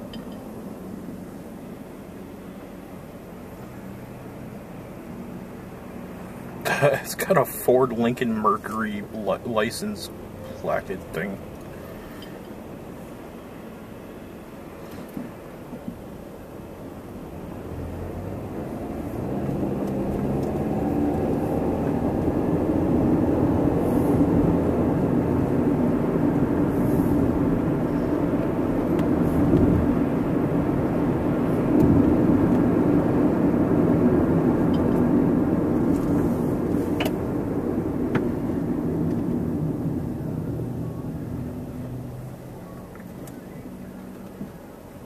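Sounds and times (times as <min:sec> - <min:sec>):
car engine from inside: 0:00.0 - 0:45.0
road noise: 0:00.0 - 0:45.0.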